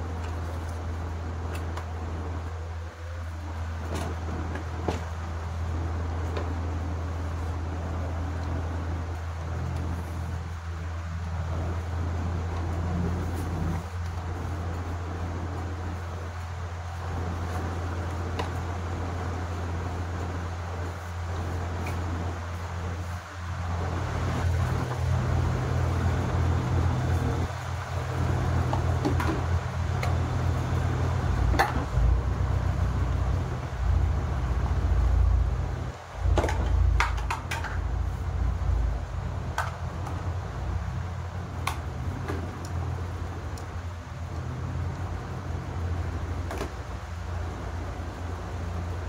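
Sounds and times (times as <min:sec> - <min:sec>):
low rumbling hum: 0:00.0 - 0:49.0.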